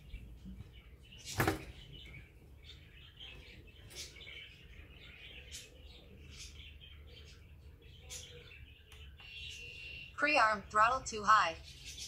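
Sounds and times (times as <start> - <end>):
faint bird chirps: 0.0 - 10.5.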